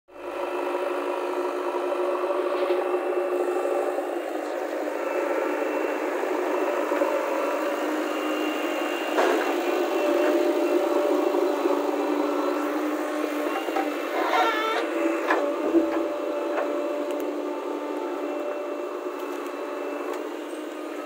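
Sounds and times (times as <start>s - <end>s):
diesel engine running: 0.1s - 21.0s.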